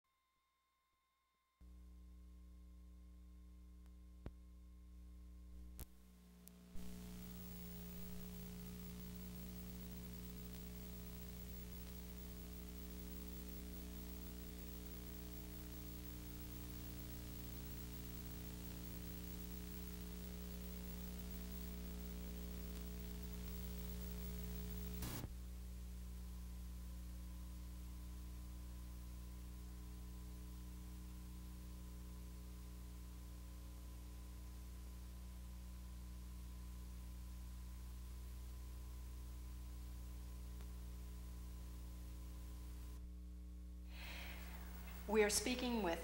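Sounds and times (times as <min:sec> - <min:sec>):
electrical hum: 0:01.6 - 0:46.0
tape hiss: 0:01.6 - 0:46.0.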